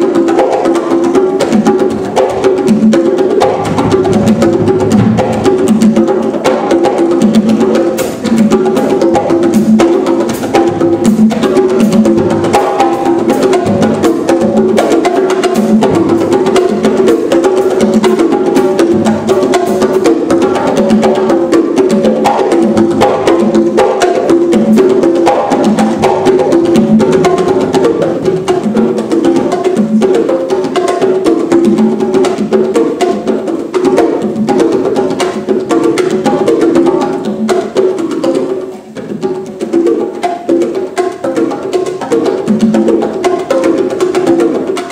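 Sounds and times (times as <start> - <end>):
congas played by hand: 0.0 - 44.9.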